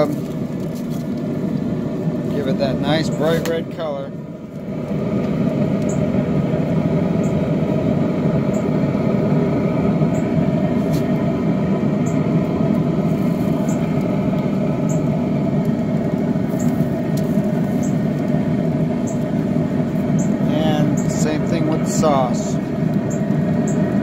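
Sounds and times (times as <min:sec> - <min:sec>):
machine running noise: 0:00.0 - 0:24.0.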